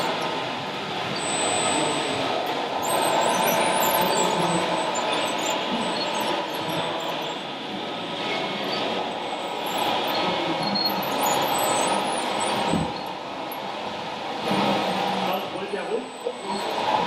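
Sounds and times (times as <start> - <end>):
model construction machines running: 0.0 - 17.0.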